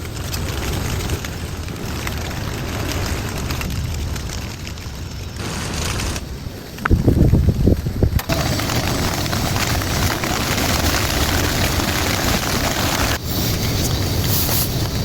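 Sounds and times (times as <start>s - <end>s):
heavy rain hissing: 0.0s - 15.0s
thunder rumbling: 0.0s - 15.0s.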